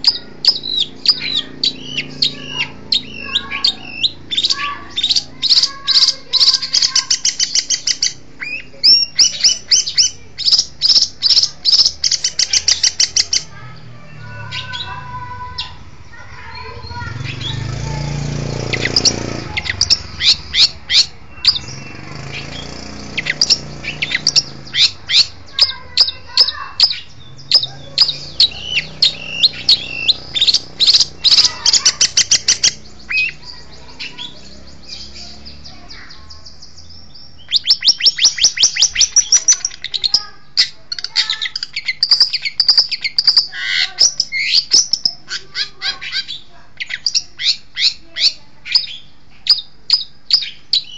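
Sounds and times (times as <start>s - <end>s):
bird singing high chirps: 0.0s - 50.9s.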